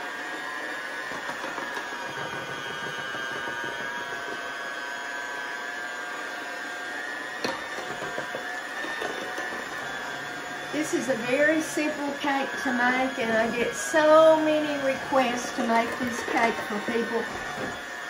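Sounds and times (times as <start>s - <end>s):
electric hand mixer whirring: 0.0s - 18.0s.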